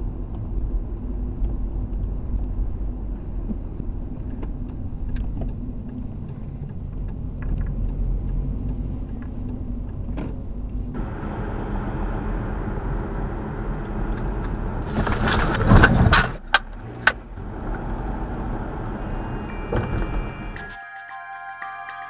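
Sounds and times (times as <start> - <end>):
car engine and tyres rumbling: 0.0 - 20.6.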